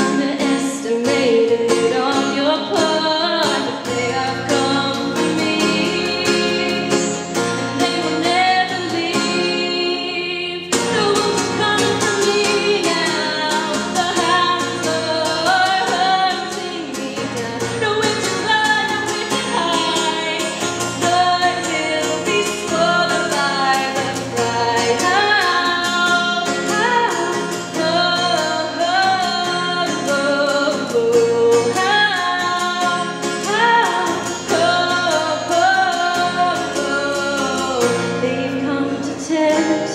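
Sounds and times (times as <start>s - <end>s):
acoustic guitar: 0.0s - 39.9s
woman singing: 0.0s - 39.9s.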